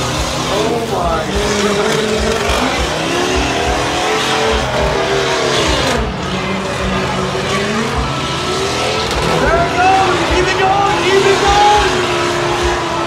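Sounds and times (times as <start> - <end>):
engine revving hard: 0.0 - 13.0.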